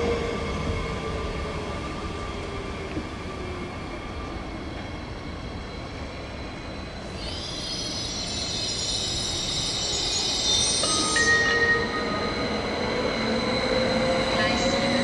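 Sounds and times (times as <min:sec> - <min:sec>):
electric train rumble: 0:00.0 - 0:15.0
train whine: 0:00.0 - 0:15.0.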